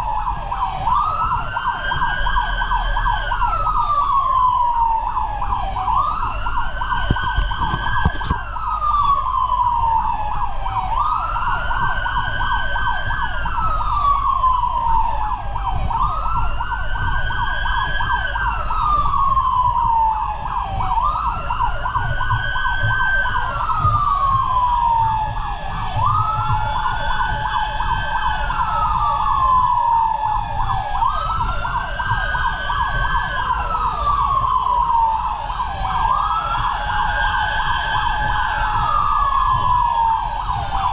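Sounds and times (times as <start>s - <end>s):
fire truck siren wailing: 0.0s - 40.9s
low rumble of moving truck: 0.0s - 40.9s.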